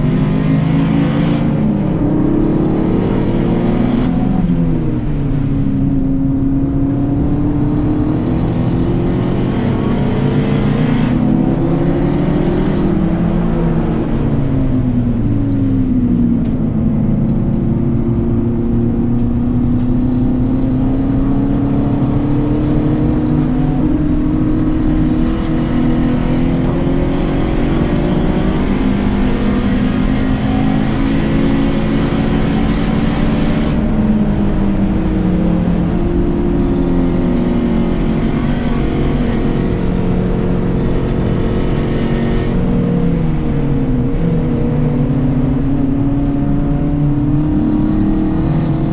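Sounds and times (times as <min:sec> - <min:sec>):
car engine accelerating and shifting: 0:00.0 - 0:48.9.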